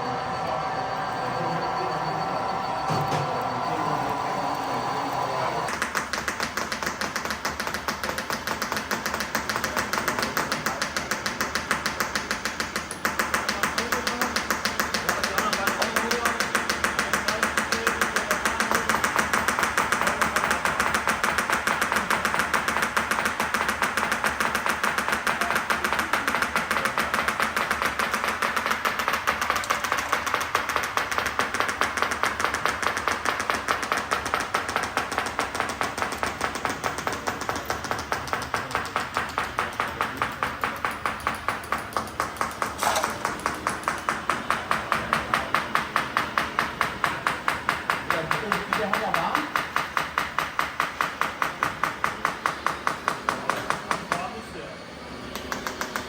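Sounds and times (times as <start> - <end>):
small machine clattering: 5.1 - 54.4.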